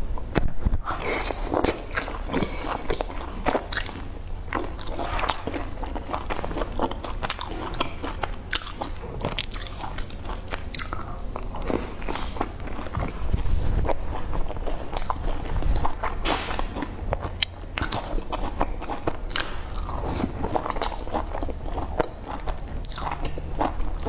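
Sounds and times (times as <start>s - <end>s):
person chewing food wetly: 1.0s - 24.0s.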